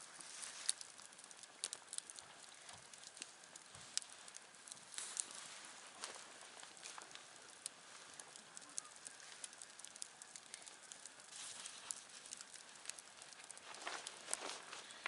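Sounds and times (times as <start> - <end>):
campfire crackles and pops: 0.0 - 15.0
campfire hiss: 0.0 - 15.0.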